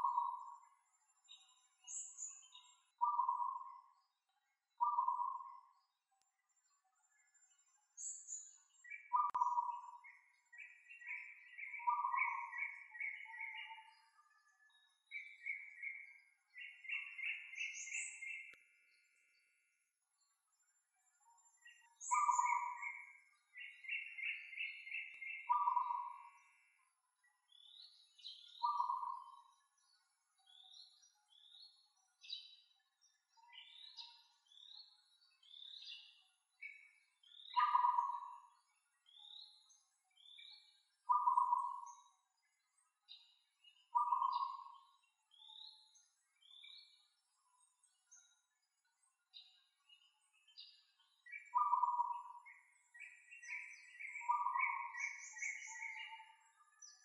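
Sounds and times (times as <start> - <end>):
birds singing whistled notes: 0.0 - 57.0.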